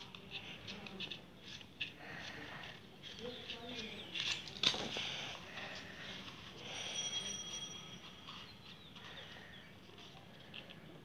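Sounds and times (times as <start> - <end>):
soft rustling and scraping: 0.0 - 11.0.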